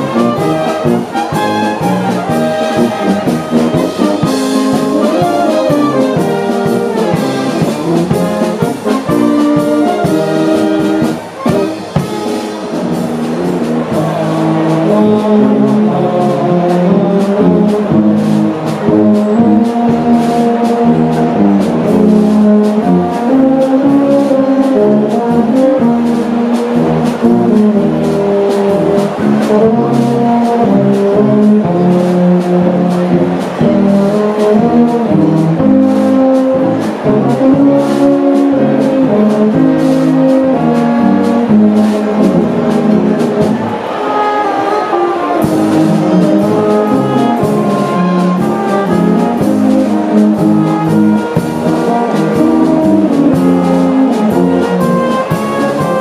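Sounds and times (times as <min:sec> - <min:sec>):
brass band playing: 0:00.0 - 0:56.0.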